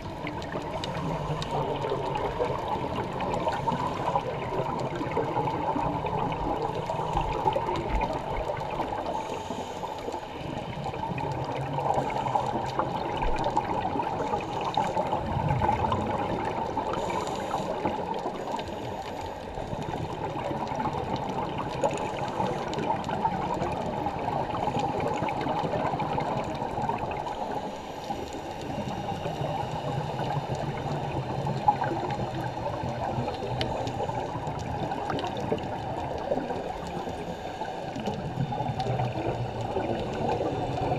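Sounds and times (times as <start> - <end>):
muffled underwater rush: 0.0 - 40.9.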